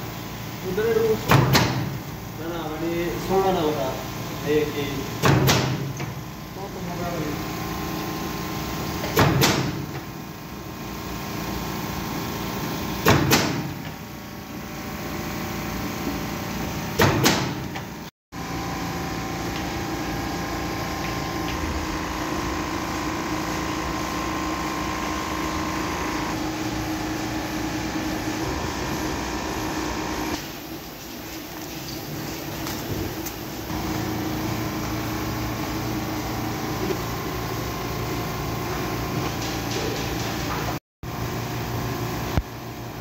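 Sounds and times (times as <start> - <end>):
laminator humming and whirring: 0.0 - 43.0.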